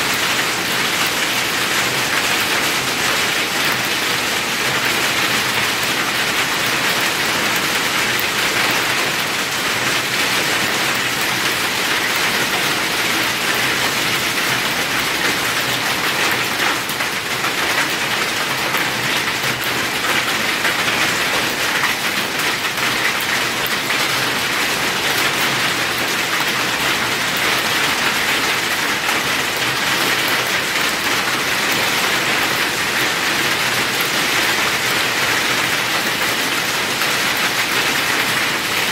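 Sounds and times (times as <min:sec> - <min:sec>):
hail and rain pelting down: 0:00.0 - 0:38.9.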